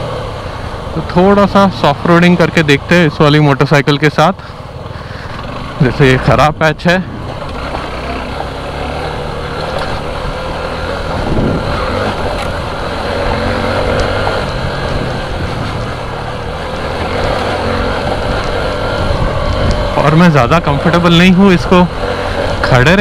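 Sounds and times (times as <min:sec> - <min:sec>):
motorcycle engine running: 0:00.0 - 0:23.0
tyres rumbling on loose ground: 0:00.0 - 0:23.0.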